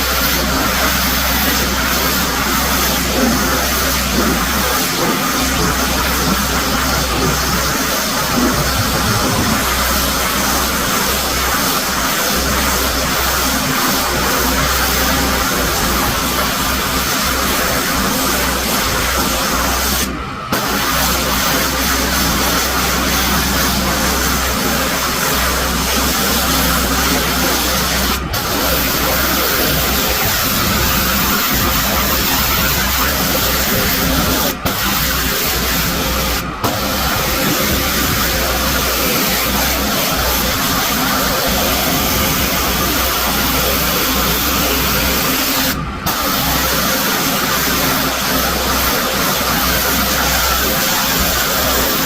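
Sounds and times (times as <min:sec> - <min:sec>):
pressure washer engine hum: 0:00.0 - 0:52.0
pressure washer spray hissing: 0:00.0 - 0:52.0.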